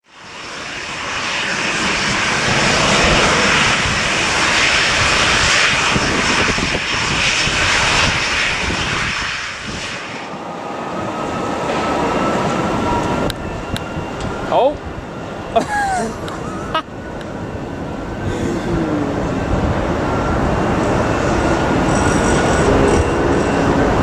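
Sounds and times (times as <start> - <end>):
jet engine whine: 0.0 - 24.0
airliner engines rushing: 0.1 - 24.0.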